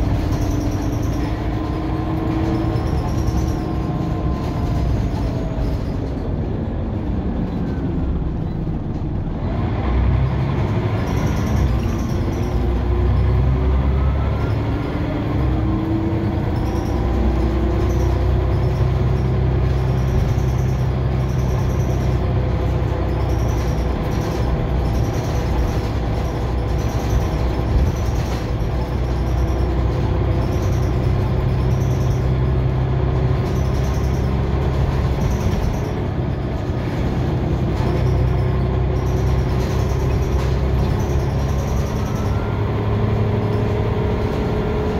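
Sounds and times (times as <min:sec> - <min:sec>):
bus diesel engine rumble: 0:00.0 - 0:44.9.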